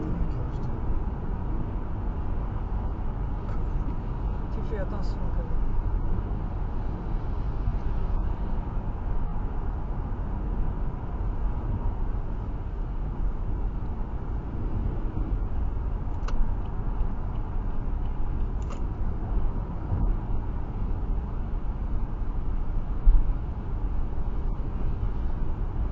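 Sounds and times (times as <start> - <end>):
car road noise in rain: 0.0 - 25.9.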